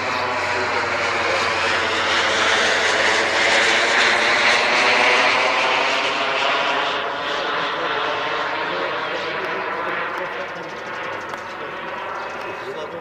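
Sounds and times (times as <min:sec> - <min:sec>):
model jet turbine whine passing: 0:00.0 - 0:13.0.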